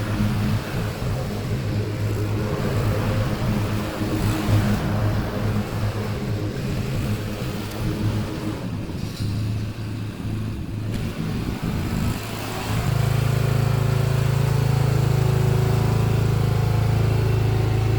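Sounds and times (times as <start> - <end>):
lawn mower engine running: 0.0 - 17.9.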